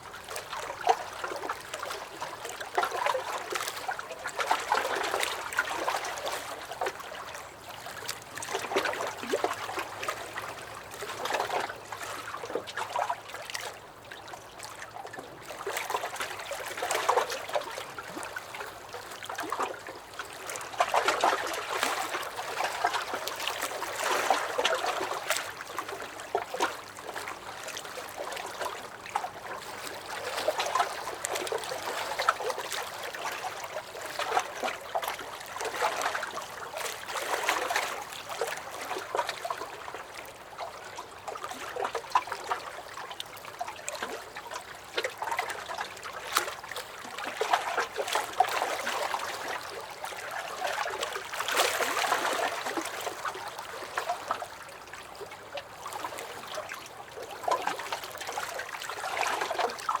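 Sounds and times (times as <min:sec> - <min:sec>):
waves lapping against a dock: 0:00.0 - 1:00.0.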